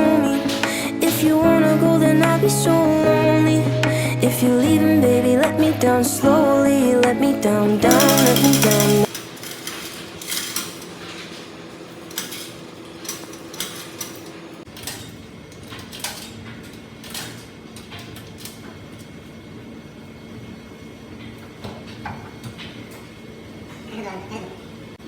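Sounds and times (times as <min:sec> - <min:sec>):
washing machine humming: 0:00.0 - 0:25.0.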